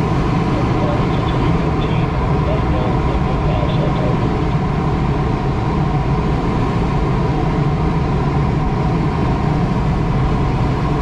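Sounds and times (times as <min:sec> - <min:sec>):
rush of air in flight: 0:00.0 - 0:11.0.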